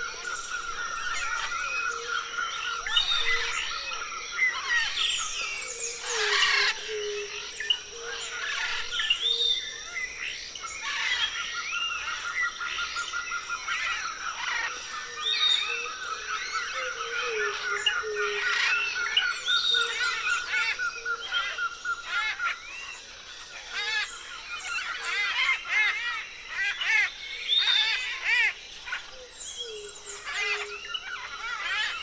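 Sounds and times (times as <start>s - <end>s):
birds singing: 0.0s - 32.0s.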